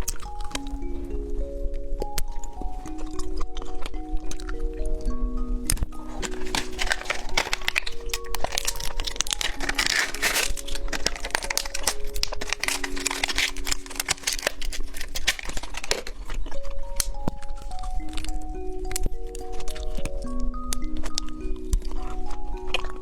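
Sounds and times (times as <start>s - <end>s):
plastic wrapper crinkling: 0.0s - 0.9s, 1.7s - 23.0s
music of held notes: 0.0s - 23.0s.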